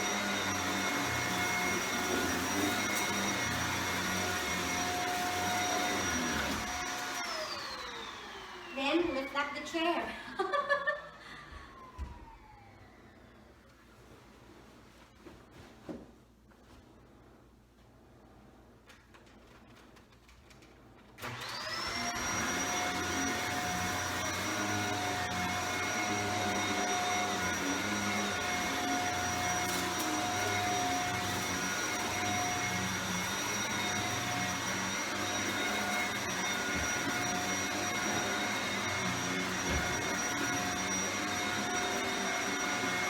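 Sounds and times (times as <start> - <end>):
vacuum cleaner motor whine: 0.0 - 13.9, 21.2 - 43.0.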